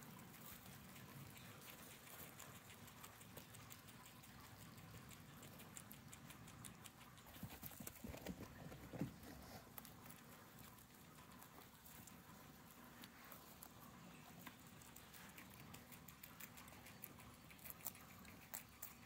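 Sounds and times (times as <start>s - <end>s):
guinea pigs munching: 0.0s - 19.0s.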